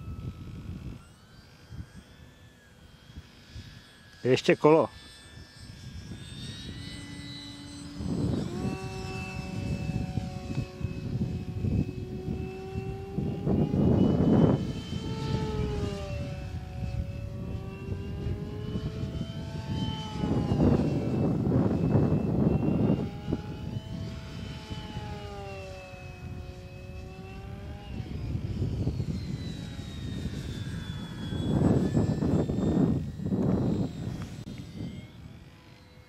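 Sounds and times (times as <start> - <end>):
model plane motor whine: 0.0 - 36.0.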